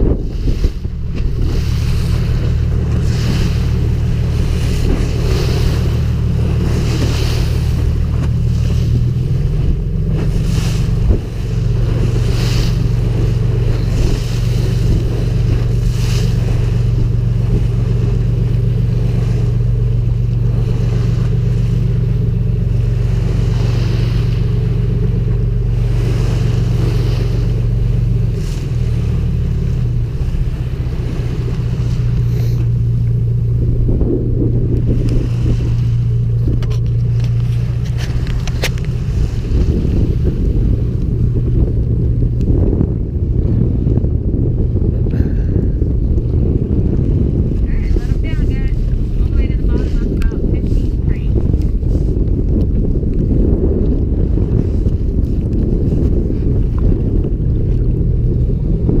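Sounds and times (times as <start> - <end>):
boat engine droning: 0.0 - 59.0
water splashing along hull: 0.0 - 59.0
wind on microphone: 0.0 - 59.0.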